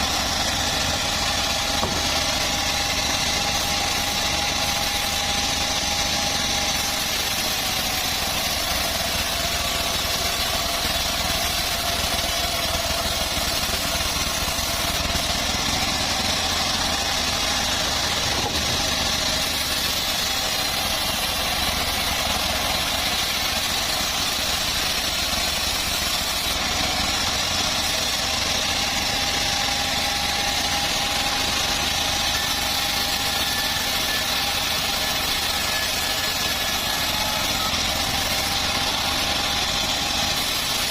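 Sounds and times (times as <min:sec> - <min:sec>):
bandsaw running: 0:00.0 - 0:40.9.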